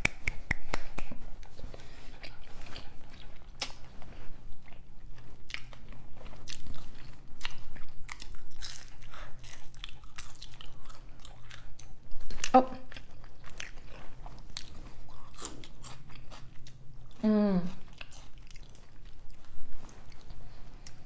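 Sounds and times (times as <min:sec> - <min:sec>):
chewing and crunching fries: 0:01.4 - 0:21.0.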